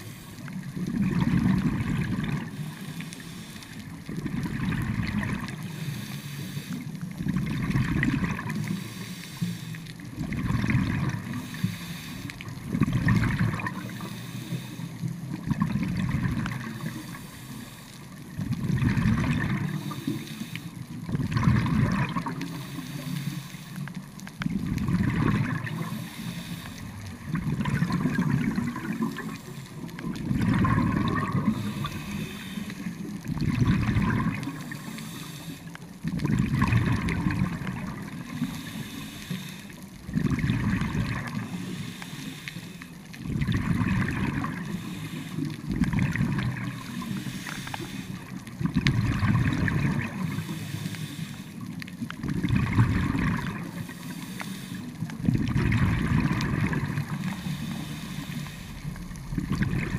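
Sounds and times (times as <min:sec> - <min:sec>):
underwater exhaled bubbles: 0:00.0 - 0:59.9.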